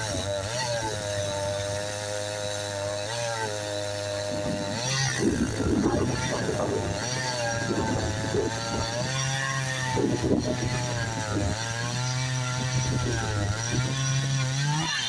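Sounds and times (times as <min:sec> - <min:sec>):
chainsaw cutting through log: 0:00.0 - 0:15.0.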